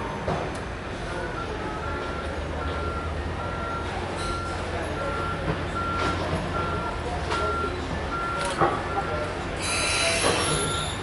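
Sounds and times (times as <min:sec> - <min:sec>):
diesel locomotive rumble: 0:00.0 - 0:11.0
electronic warning beeps: 0:01.2 - 0:11.0.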